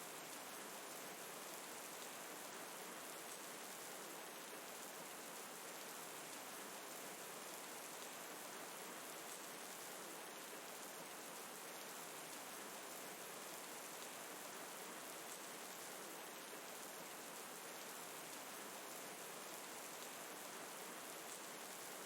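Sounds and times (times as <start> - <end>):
faint steady rain: 0.0 - 22.0.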